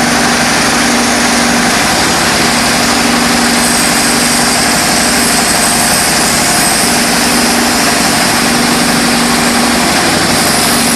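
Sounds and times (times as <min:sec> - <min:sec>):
stone crusher machine running: 0:00.0 - 0:10.9.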